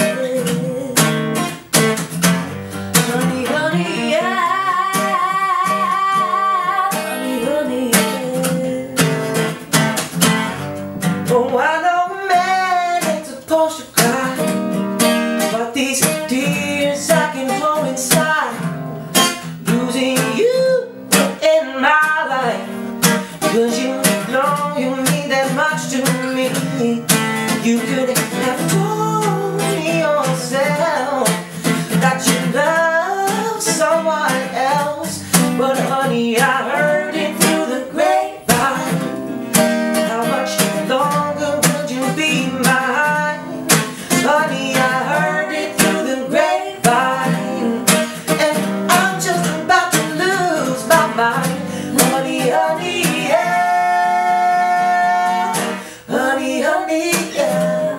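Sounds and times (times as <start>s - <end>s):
wordless vocal melody: 0.0s - 1.7s, 2.6s - 57.9s
strummed acoustic guitar: 0.0s - 57.9s.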